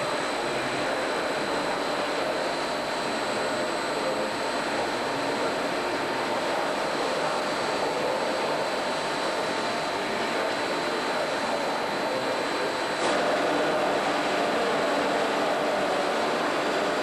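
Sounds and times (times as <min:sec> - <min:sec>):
high-pitched machine whines: 0:00.0 - 0:17.0.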